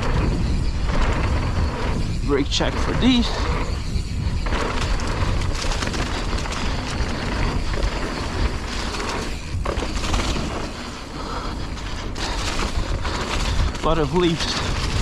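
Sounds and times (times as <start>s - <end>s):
bike clattering over bumps: 0.0s - 15.0s
tyres rolling over dirt and leaves: 0.0s - 15.0s
wind rumbling on microphone: 0.0s - 15.0s.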